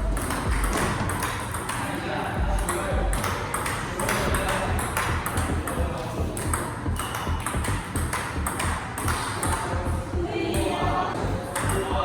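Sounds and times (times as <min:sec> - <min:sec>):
ping-pong ball clicking: 0:00.2 - 0:09.8, 0:11.5 - 0:12.0.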